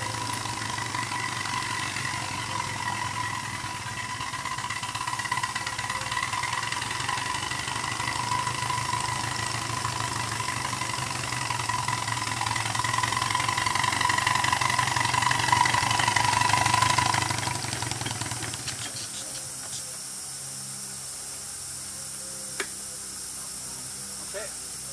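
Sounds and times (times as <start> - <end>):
steam hissing: 0.0 - 21.9
miniature train droning and whining: 0.0 - 24.9.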